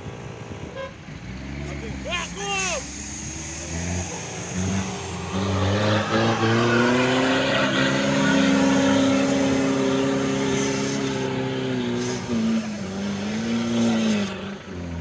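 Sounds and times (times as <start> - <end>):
engine revving hard: 1.2 - 14.4.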